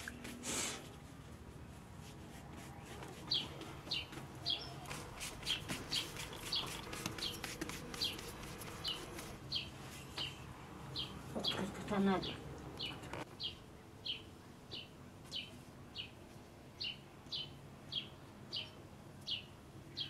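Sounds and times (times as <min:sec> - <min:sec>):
bird chirping: 0:02.8 - 0:16.2, 0:16.8 - 0:20.0.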